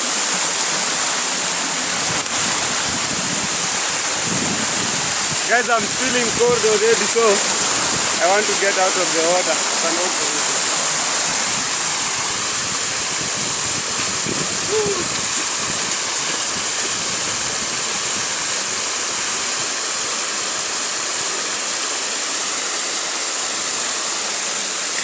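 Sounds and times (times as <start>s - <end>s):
river water flowing over stones: 0.0s - 25.0s.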